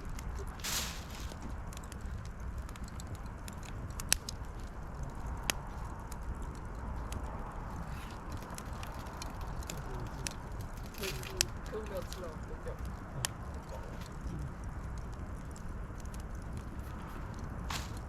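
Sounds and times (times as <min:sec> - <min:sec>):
sharp fire pops: 0:00.0 - 0:18.0
wood fire crackling: 0:00.0 - 0:18.0.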